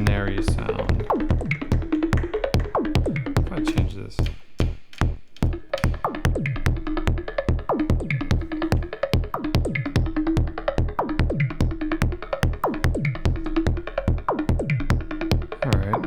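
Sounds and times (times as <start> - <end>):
synthesized electro beat: 0.0 - 16.0.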